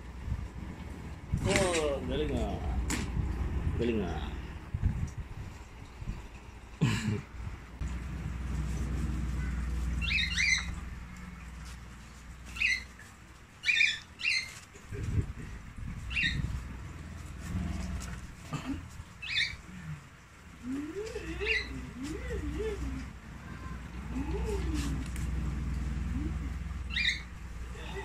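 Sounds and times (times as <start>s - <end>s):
low rumble: 0.0s - 6.4s, 7.4s - 12.6s, 14.9s - 20.7s, 21.7s - 28.0s.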